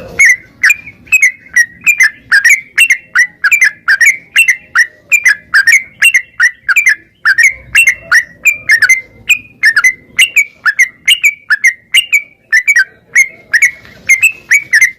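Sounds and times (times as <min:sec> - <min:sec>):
bulbul singing rapid notes: 0:00.0 - 0:14.9.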